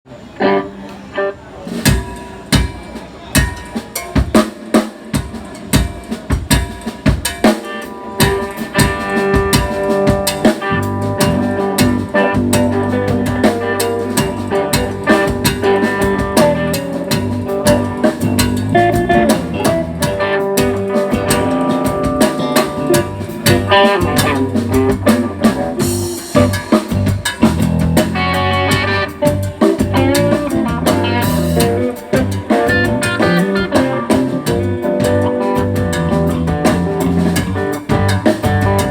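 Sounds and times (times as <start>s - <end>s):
live band playing upbeat song: 0.4s - 38.9s
bass guitar: 7.8s - 38.9s.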